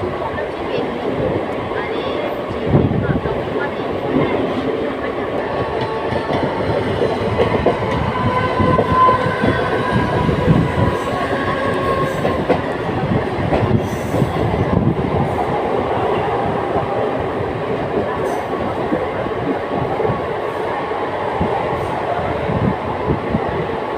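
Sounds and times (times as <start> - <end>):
train wheels rumbling: 0.0 - 23.9.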